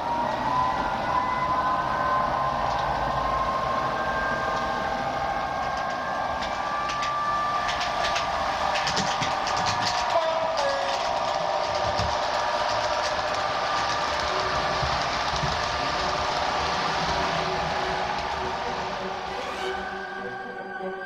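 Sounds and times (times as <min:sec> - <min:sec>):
wheels clicking over rail joints: 0:00.0 - 0:19.7
model train motor whine: 0:00.0 - 0:20.0.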